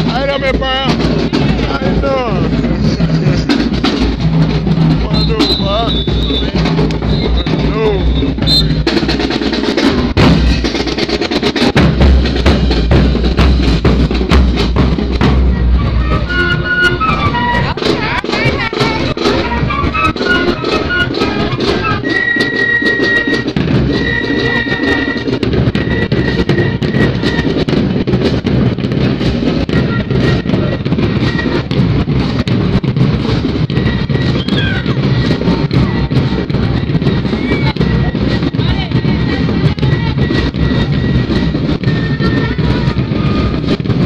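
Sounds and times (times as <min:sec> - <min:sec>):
bass drums pounding: 0:00.0 - 0:44.0
marching band playing: 0:00.0 - 0:44.0
rapid drum hits: 0:00.0 - 0:44.0.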